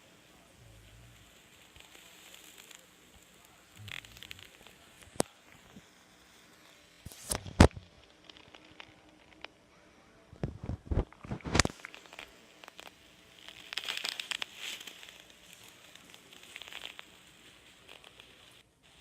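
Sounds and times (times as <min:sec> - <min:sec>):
crackling and rustling: 0:00.0 - 0:19.0
stomach growling: 0:00.0 - 0:19.0.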